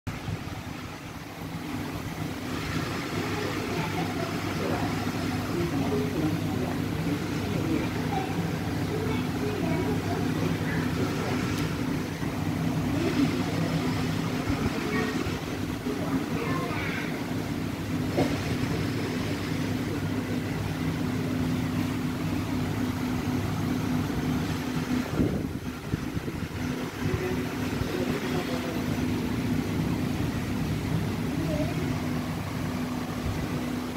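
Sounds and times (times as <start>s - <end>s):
machinery hum and rumble: 0.1s - 33.9s
indistinct voices: 2.5s - 32.6s.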